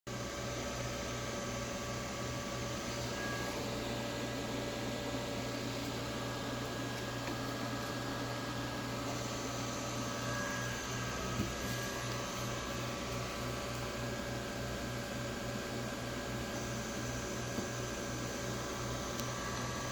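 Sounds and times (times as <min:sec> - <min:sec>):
fan and electrical hum: 0:00.1 - 0:19.9
constant whining tones: 0:00.3 - 0:19.9.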